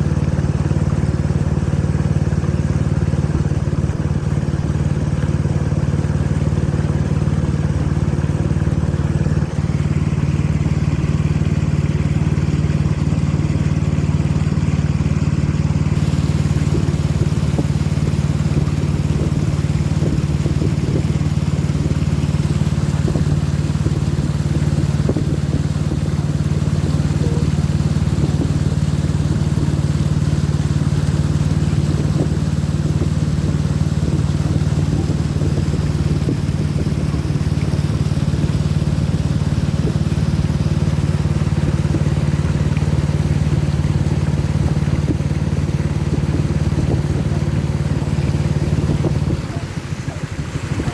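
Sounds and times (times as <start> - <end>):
boat engine humming: 0.0 - 50.9.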